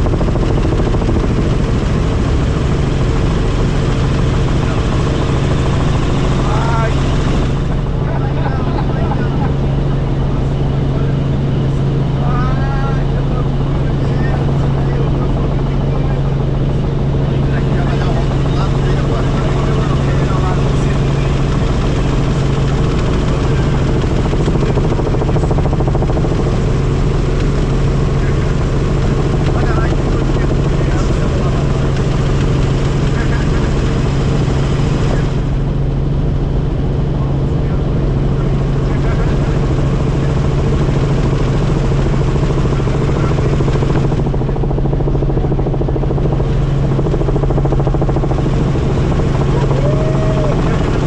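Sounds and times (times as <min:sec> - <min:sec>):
helicopter rotor and engine: 0:00.0 - 0:51.0.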